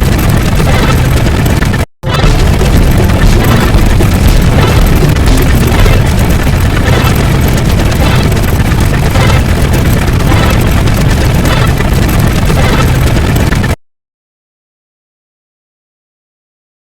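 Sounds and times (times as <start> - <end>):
deep continuous rumbling: 0.0 - 13.8.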